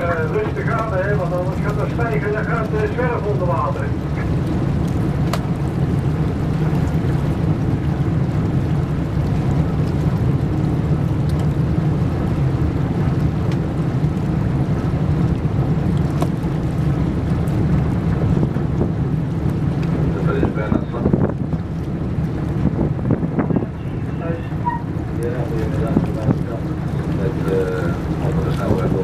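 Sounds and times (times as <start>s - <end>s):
barge engine low rumble: 0.0s - 29.0s
wind on microphone: 3.9s - 29.0s.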